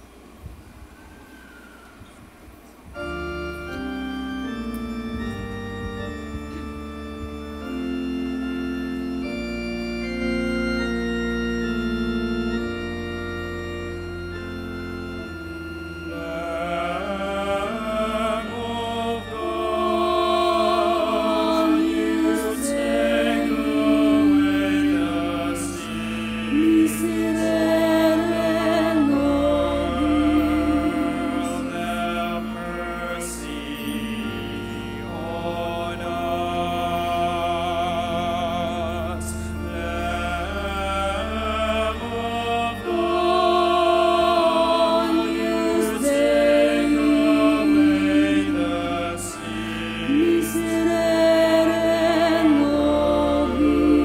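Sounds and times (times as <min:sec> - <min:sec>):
organ playing sustained chords: 0:00.0 - 0:54.0
singers singing liturgical music: 0:02.9 - 0:54.0.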